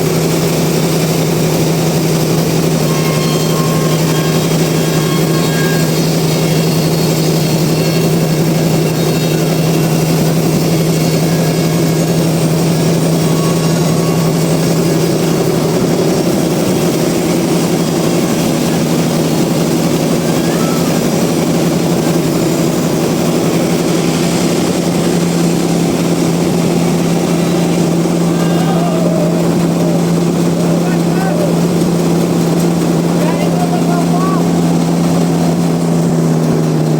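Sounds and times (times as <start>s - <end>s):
sawmill machinery humming: 0.0s - 36.9s.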